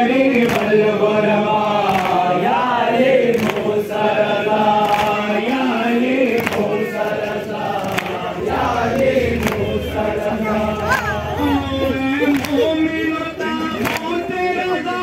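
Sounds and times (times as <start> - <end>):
men chanting in chorus: 0.0 - 15.0.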